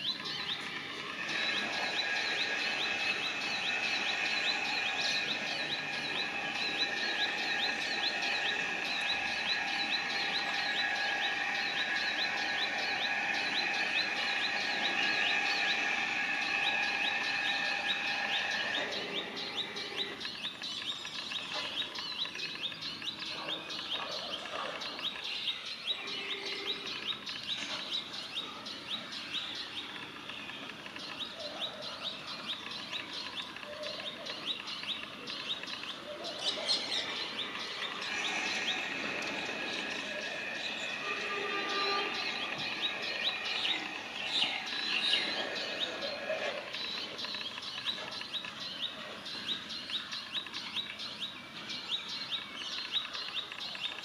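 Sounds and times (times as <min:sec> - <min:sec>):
bird warning call: 0:00.0 - 0:54.0
steady background drone: 0:00.0 - 0:54.0.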